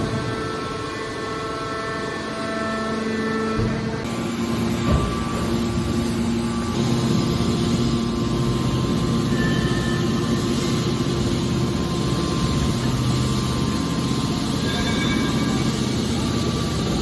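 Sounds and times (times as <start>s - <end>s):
hydraulic baler droning: 0.0s - 17.0s.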